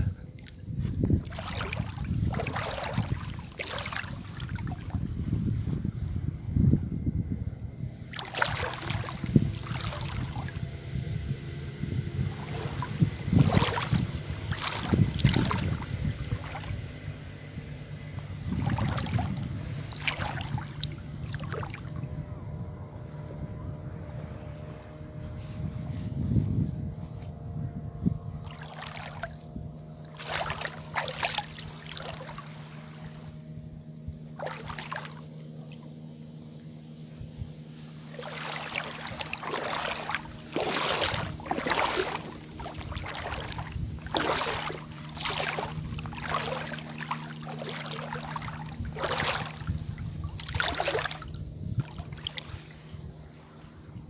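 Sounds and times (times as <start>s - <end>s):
feet splashing through water: 0.0s - 5.2s, 8.0s - 22.3s, 28.3s - 53.3s
steady low hum: 0.0s - 54.0s.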